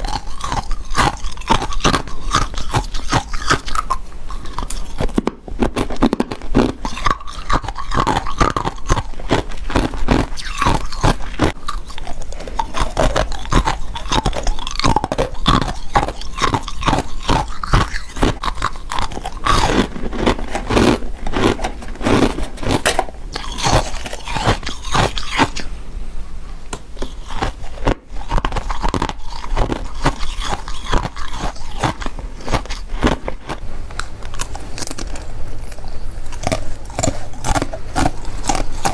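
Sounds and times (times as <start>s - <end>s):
frost being chewed crunching: 0.0s - 25.7s, 26.8s - 38.9s.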